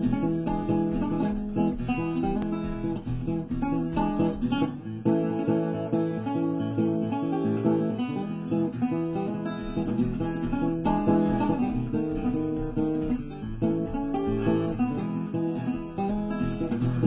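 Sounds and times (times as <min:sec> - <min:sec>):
resonator guitar playing blues: 0:00.0 - 0:17.0.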